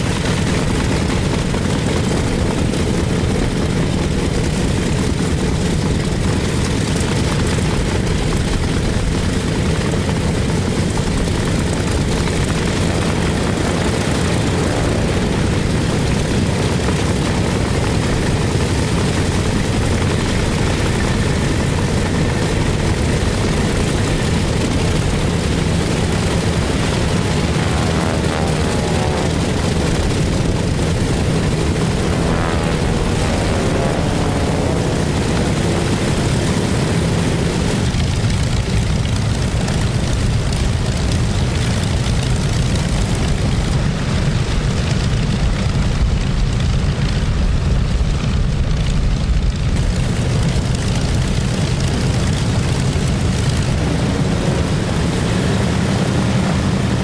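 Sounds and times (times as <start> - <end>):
deep propeller rumble: 0.0 - 57.0
radial aircraft engines idling: 0.0 - 57.0.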